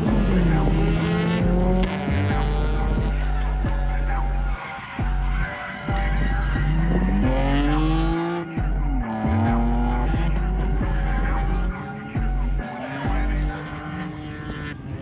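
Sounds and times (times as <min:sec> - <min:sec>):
car engine revving: 0:00.0 - 0:15.0
music: 0:00.0 - 0:15.0.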